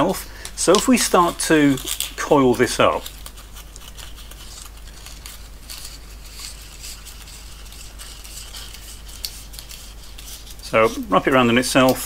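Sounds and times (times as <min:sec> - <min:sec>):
paper tape rustling and crinkling: 0:00.0 - 0:12.0.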